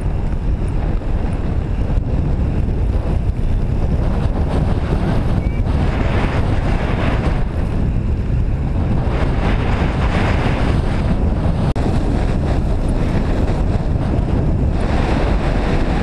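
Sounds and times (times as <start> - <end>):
loud wind buffeting microphone: 0.0 - 16.0.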